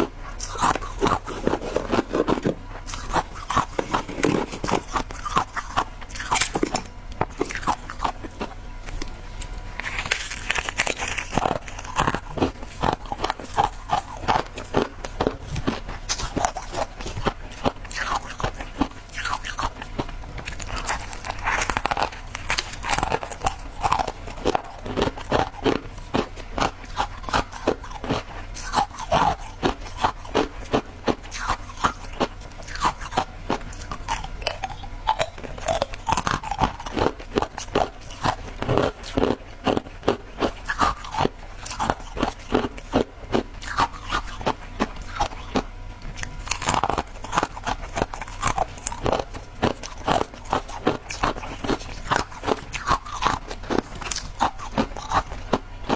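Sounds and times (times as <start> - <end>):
ice crunching being chewed: 0.0 - 55.9.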